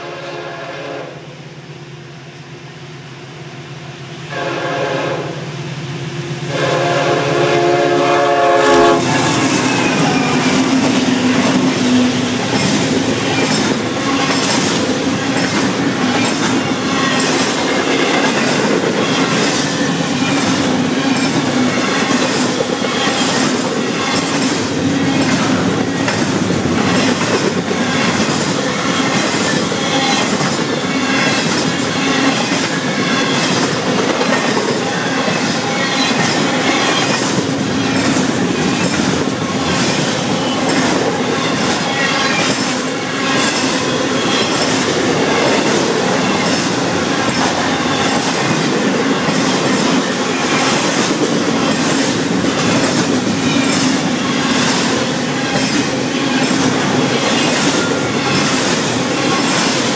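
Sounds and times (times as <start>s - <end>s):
freight train wheels rumbling: 0.0s - 59.9s
train wheels clacking: 1.4s - 59.9s.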